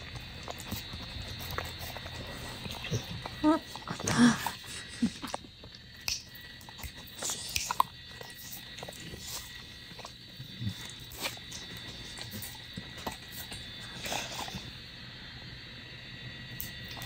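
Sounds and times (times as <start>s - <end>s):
dog licking and smacking lips: 0.0s - 14.7s.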